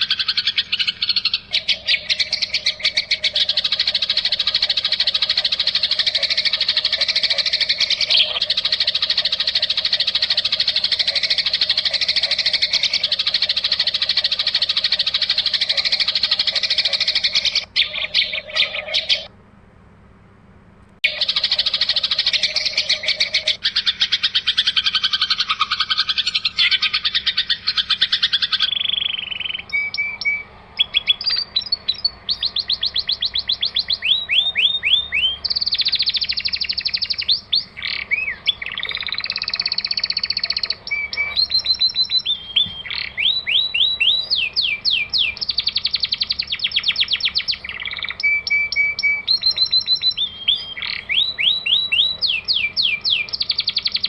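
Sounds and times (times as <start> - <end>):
songbird song: 0.0 - 19.4, 20.8 - 54.0.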